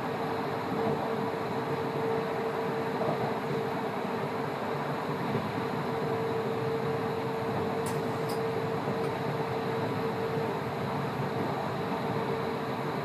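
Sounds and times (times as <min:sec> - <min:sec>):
train running rumble and hiss: 0:00.0 - 0:13.0.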